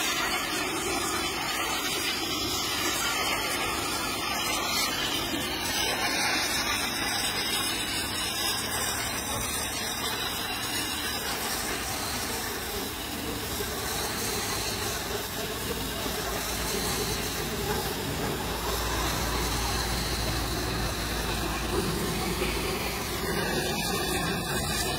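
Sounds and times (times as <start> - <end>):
pressure washer spraying metal: 0.0 - 24.9.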